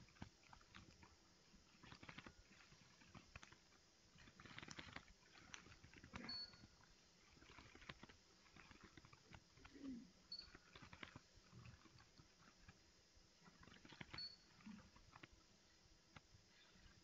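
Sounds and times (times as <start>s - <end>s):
faint small clicks and rustles: 0.0s - 17.0s.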